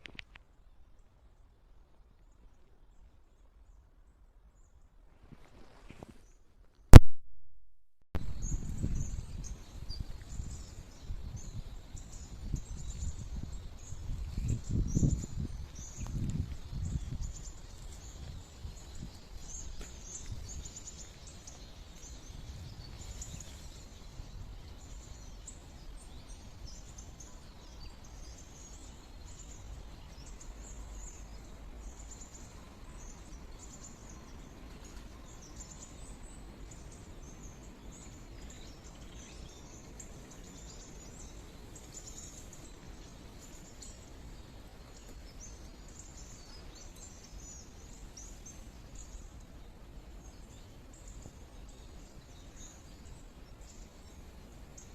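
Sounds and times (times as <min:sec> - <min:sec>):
small birds chirping: 0:08.2 - 0:54.9.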